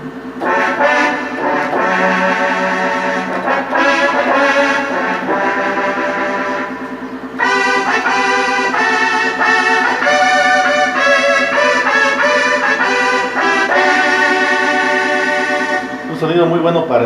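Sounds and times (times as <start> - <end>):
synthesizer brass melody: 0.2 - 16.6.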